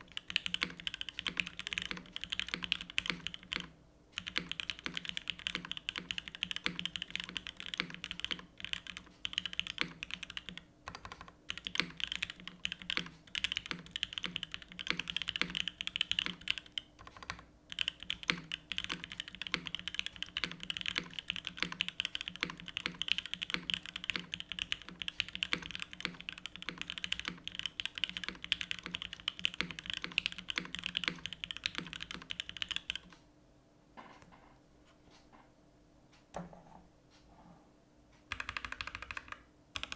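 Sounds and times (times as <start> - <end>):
fast mechanical keyboard typing: 0.0 - 33.1, 38.3 - 39.9.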